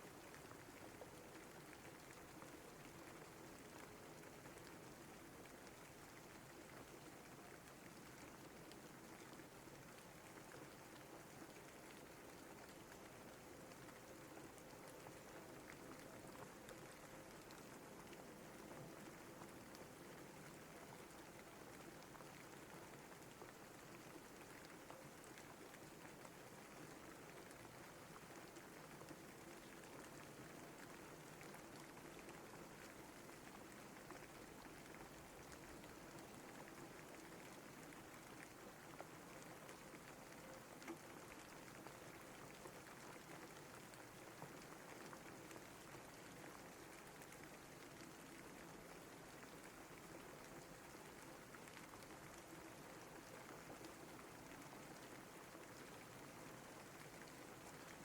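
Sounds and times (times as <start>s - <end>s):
faint steady rainfall: 0.0s - 58.0s.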